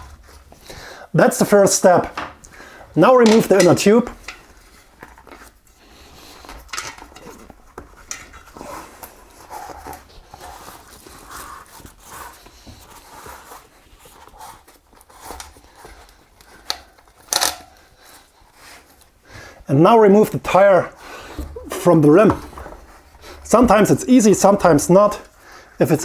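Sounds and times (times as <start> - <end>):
rubber rubbing and rustling: 0.0 - 19.4, 20.2 - 26.0.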